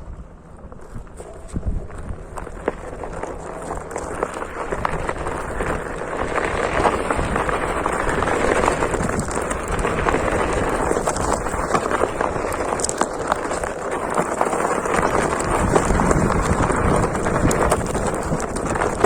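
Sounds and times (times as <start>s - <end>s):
crunching over stony ground: 0.0s - 19.0s.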